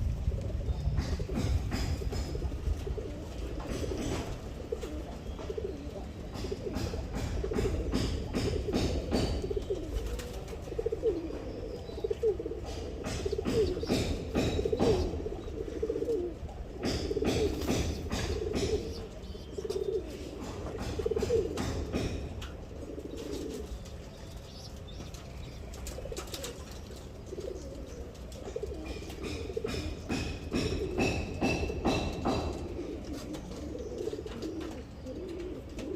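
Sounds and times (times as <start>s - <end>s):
pigeons cooing: 0.0s - 35.9s.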